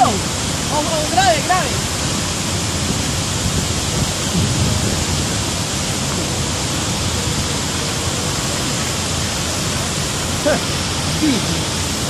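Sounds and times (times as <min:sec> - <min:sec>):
water rushing down spillway: 0:00.0 - 0:12.0.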